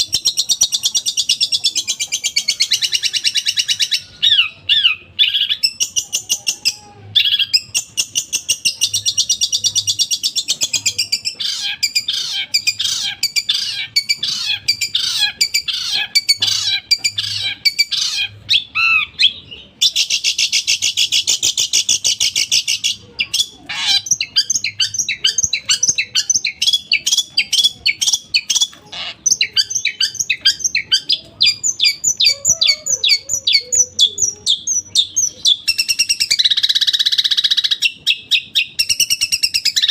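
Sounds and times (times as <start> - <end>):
bird singing harsh fast song: 0.0 - 39.9.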